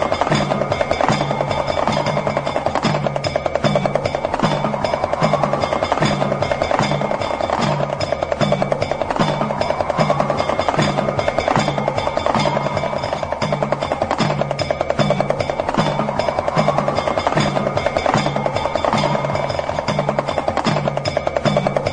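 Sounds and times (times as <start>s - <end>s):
gliding high tones: 0.0s - 21.9s
hourglass drum rattling: 0.0s - 21.9s.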